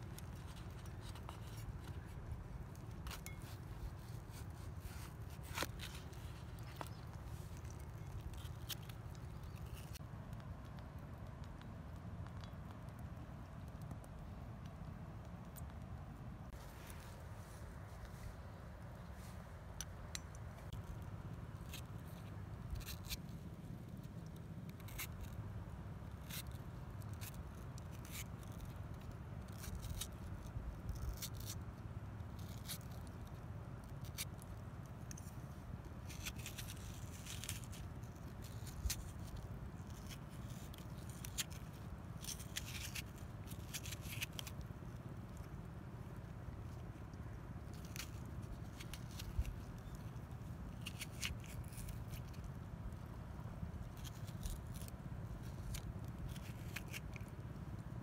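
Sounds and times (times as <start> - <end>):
knife cutting and scraping tomatoes: 0.0 - 10.1, 17.8 - 58.0.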